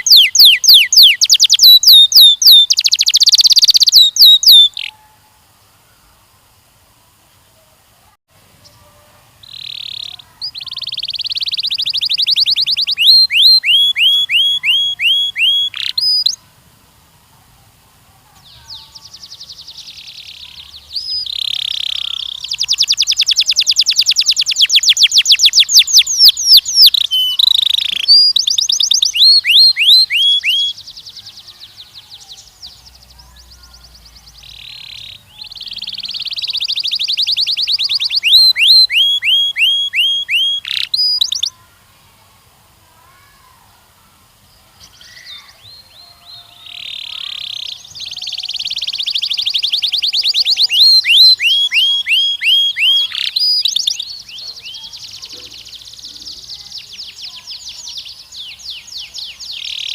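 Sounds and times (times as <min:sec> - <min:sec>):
canary singing trills: 0:00.0 - 0:05.2, 0:08.6 - 0:16.4, 0:18.4 - 0:41.6, 0:44.5 - 0:59.9.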